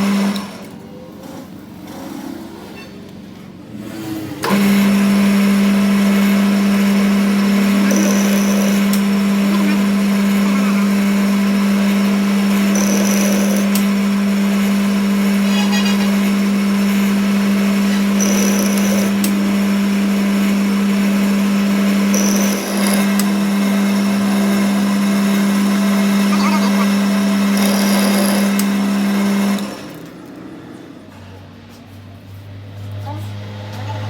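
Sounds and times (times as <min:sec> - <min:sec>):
machine humming: 0:00.0 - 0:30.9.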